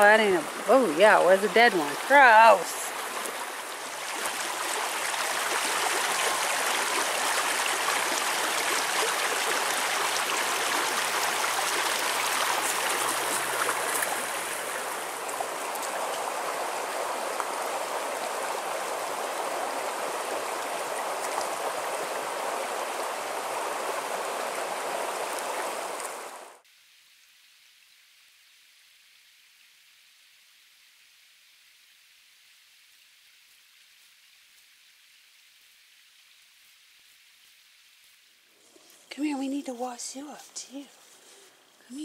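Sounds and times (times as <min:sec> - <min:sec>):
creek running over stones: 0:00.0 - 0:26.7, 0:27.3 - 0:42.0.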